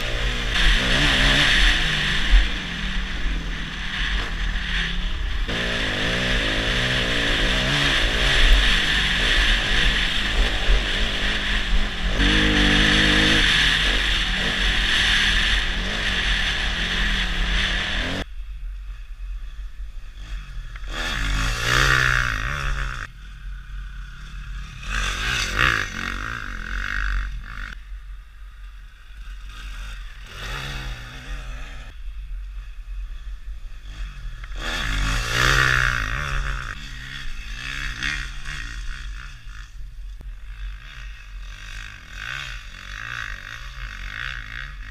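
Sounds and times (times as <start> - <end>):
motocross bike engine revving: 0.0 - 18.3, 19.3 - 27.8, 28.5 - 44.9.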